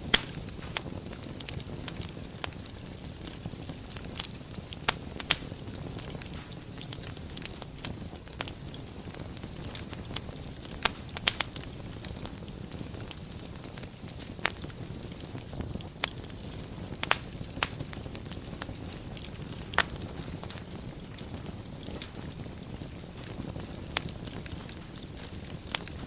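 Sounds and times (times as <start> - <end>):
fire flame rumbling: 0.0 - 26.0
wood fire crackling and popping: 0.0 - 26.0.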